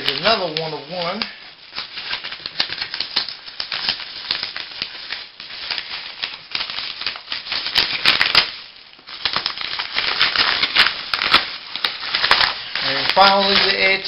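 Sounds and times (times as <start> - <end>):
paper mailer crinkling: 0.0 - 14.0.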